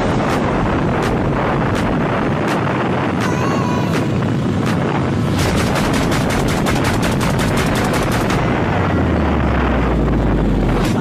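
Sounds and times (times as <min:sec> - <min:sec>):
deep low rumble: 0:00.0 - 0:11.0
wind buffeting crackle: 0:00.0 - 0:11.0
wind rush on microphone: 0:00.0 - 0:11.0.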